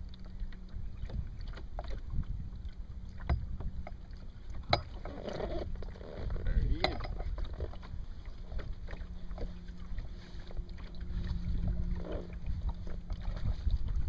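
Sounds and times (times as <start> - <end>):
boat motor hum: 0.0 - 14.0
wind rumbling on microphone: 0.0 - 14.0.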